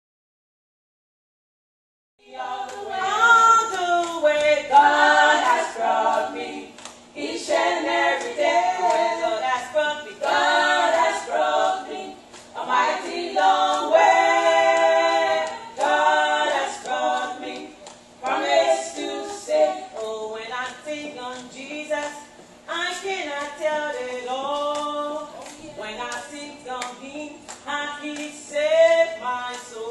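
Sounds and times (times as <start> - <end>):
women singing a cappella: 2.2 - 29.9.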